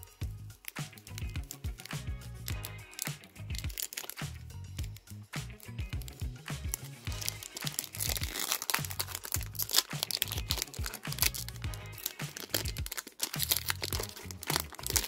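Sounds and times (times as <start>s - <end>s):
background music: 0.0s - 15.0s
foil wrapper crinkling and tearing: 0.6s - 5.0s, 6.0s - 15.0s.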